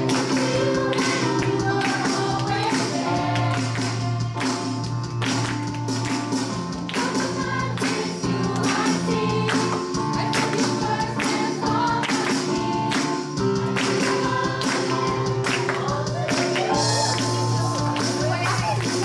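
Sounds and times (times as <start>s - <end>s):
children singing: 0.0s - 4.8s, 6.9s - 19.0s
children clapping: 0.0s - 19.0s
upbeat worship song: 0.0s - 19.0s.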